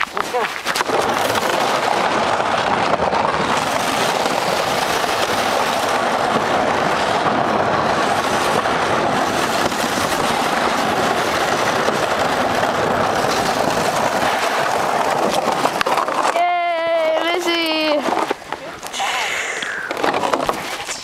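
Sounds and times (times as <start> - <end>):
plastic sled scraping over ice: 0.0 - 21.0.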